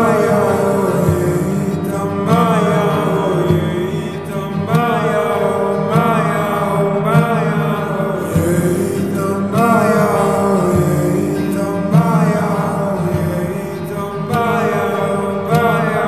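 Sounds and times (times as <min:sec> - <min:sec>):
man singing long phrases: 0:00.0 - 0:16.0
slowed reverbed pop song: 0:00.0 - 0:16.0.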